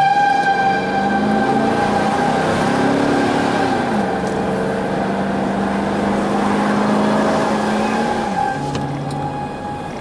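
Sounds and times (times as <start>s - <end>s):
road noise inside vehicle: 0.0s - 10.0s
van engine: 0.0s - 10.0s.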